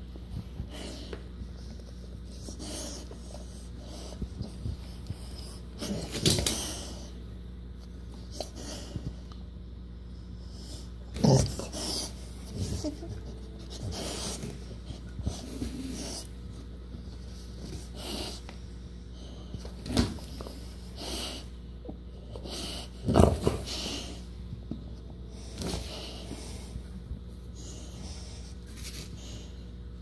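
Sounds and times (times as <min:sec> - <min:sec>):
puppy grunting and breathing: 0:00.0 - 0:30.0.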